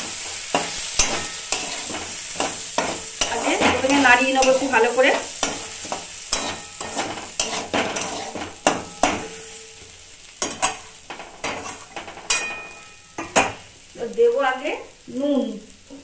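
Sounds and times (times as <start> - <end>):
spatula scraping and stirring in pan: 0.0 - 13.9.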